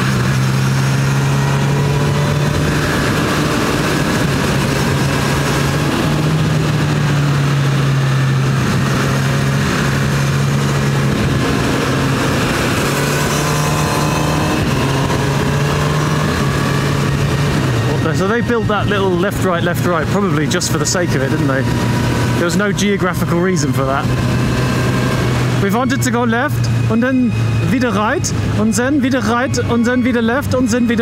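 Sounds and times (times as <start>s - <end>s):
wind rush: 0.0s - 25.7s
motorcycle engine running: 0.0s - 31.0s.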